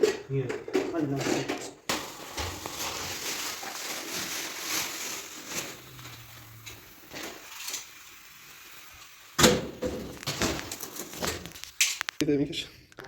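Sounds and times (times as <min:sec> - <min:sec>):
faint hiss: 0:01.9 - 0:12.9.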